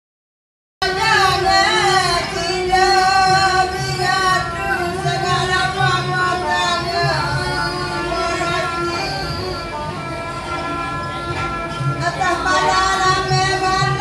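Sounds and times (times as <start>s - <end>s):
bowed string instrument: 0.8s - 14.0s
woman singing: 0.8s - 14.0s.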